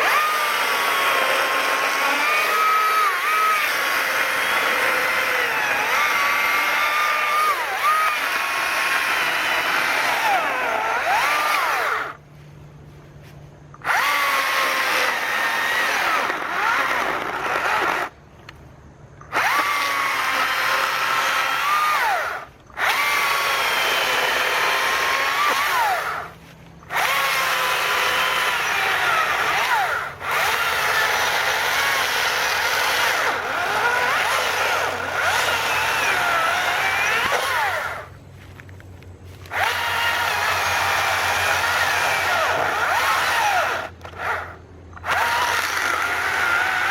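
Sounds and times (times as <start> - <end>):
chainsaw cutting logs: 0.0 - 12.2, 13.2 - 18.6, 19.2 - 38.6, 39.2 - 46.9.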